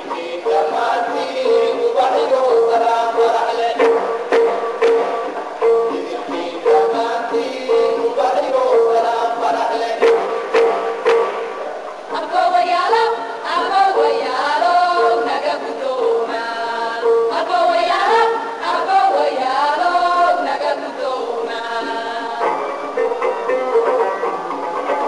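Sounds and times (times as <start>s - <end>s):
women's chorus singing: 0.0s - 10.7s, 12.1s - 23.7s.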